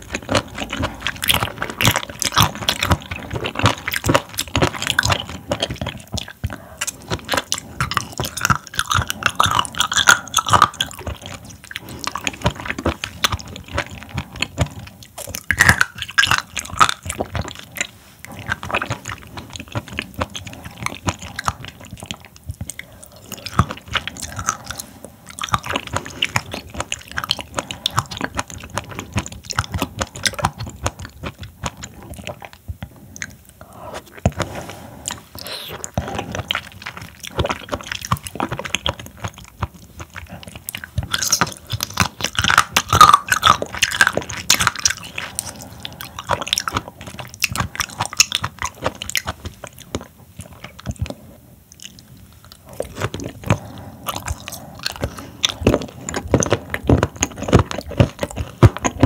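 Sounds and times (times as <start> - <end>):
chewing with wet clicks: 0.0 - 59.0.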